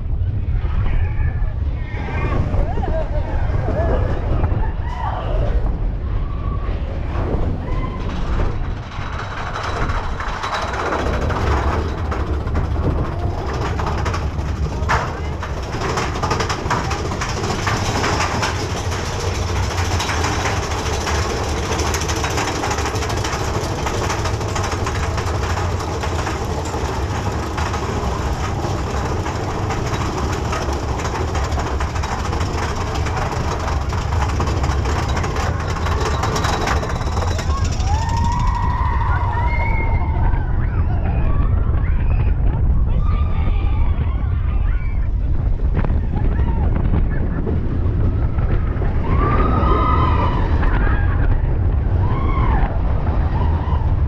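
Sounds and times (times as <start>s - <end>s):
fast dense clicking of lift hill: 0.0s - 54.0s
roller coaster rumbling on track: 0.0s - 54.0s.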